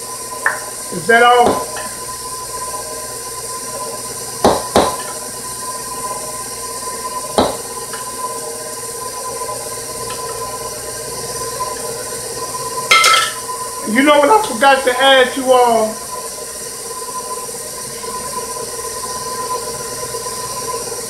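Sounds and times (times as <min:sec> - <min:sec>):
stand mixer motor whine: 0:00.0 - 0:21.0.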